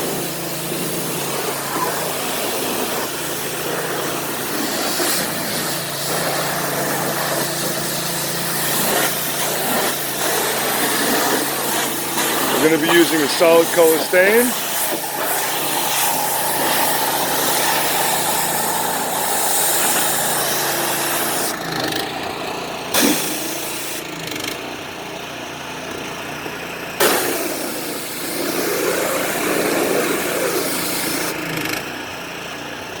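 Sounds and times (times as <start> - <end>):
high-pressure water spray hiss: 0.0 - 21.6, 23.0 - 24.0, 27.0 - 31.5
pressure washer engine humming: 0.0 - 33.0.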